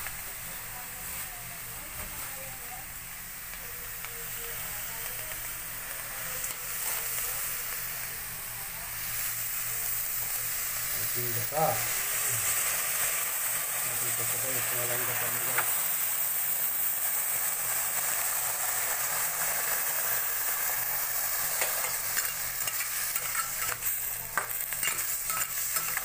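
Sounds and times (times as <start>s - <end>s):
crabs sizzling in a pot: 0.0s - 26.0s.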